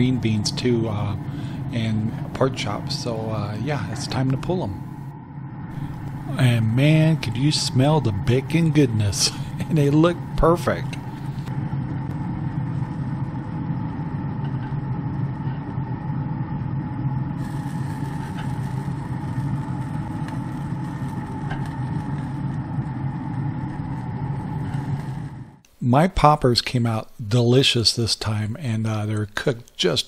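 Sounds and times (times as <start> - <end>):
grill fan humming: 0.0 - 30.0.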